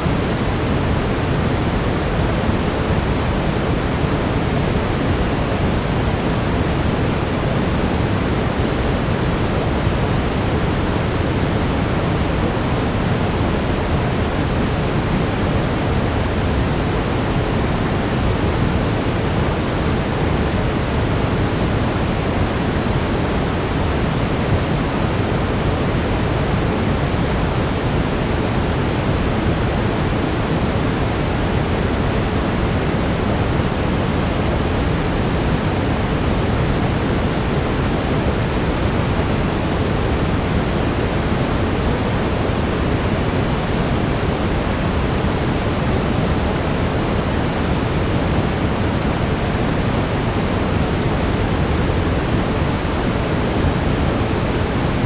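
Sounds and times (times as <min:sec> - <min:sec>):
brown noise hiss: 0:00.0 - 0:55.0.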